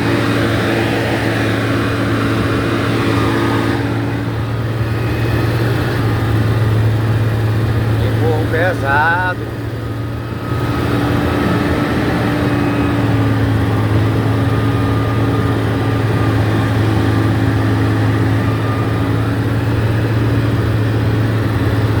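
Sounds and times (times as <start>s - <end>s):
heavy machine engine humming: 0.0s - 22.0s.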